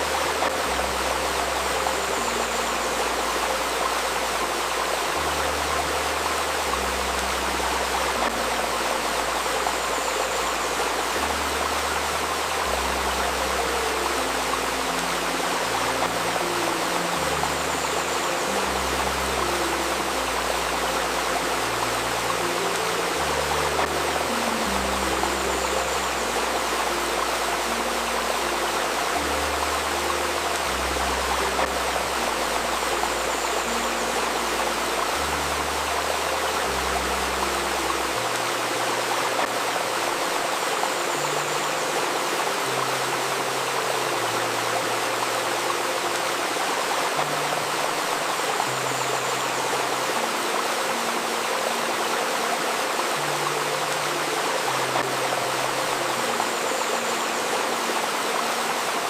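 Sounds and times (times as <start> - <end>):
soft ambient music: 0.0 - 59.0
stream rushing and babbling: 0.0 - 59.0.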